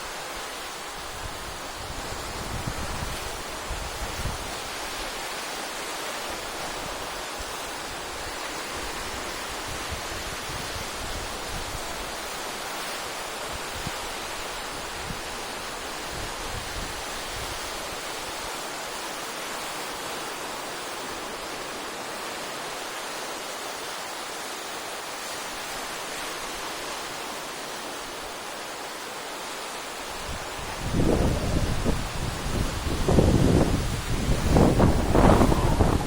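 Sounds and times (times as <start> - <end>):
wind gusts on microphone: 0.0 - 22.9, 25.3 - 36.0
waves breaking on shore: 0.0 - 36.0.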